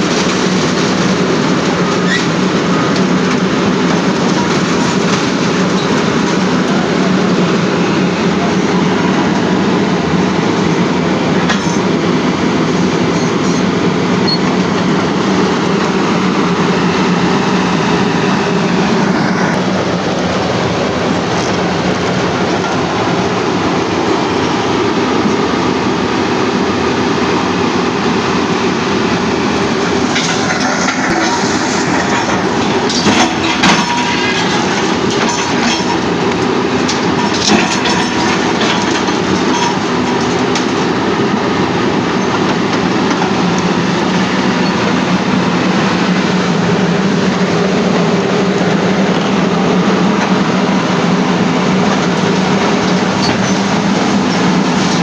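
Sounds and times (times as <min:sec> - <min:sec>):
heavy machinery rumbling and clattering: 0:00.0 - 0:55.0.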